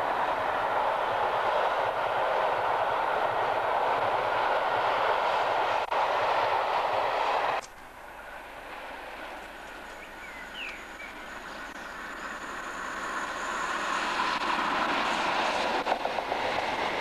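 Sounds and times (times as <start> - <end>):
diesel train approaching: 0.0 - 17.0.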